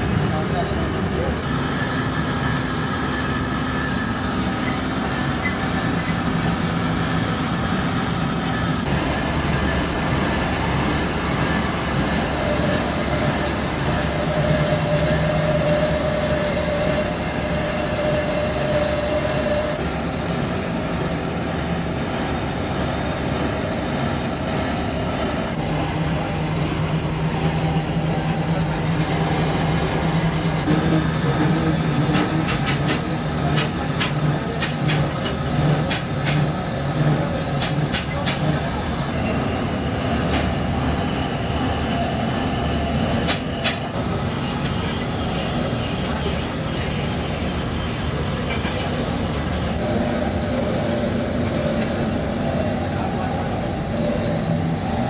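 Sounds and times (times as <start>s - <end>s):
workshop machinery running: 0.0s - 55.0s.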